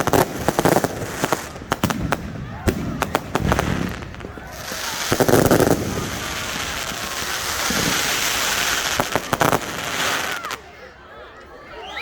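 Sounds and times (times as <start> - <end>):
fireworks bangs: 0.0 - 10.6
fireworks crackling and hissing: 0.0 - 10.7.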